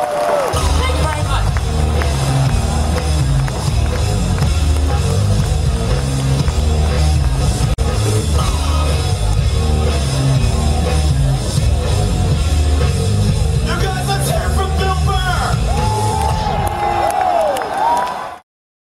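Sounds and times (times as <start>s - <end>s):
loud rock music: 0.4s - 17.0s.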